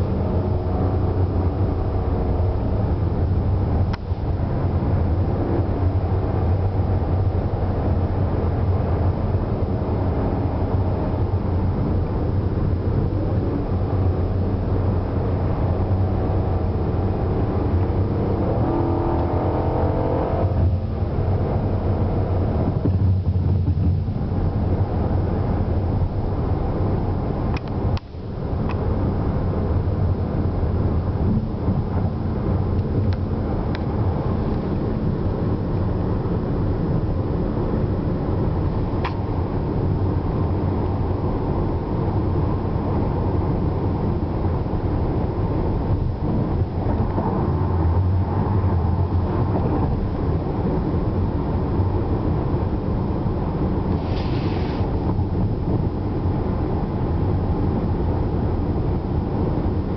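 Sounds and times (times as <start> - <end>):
car engine drone: 0.0 - 59.9
road noise: 0.0 - 59.9.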